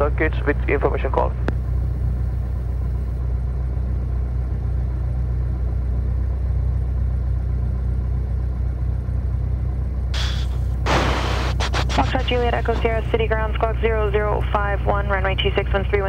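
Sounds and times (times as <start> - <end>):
light aircraft engine idling: 0.0 - 16.0.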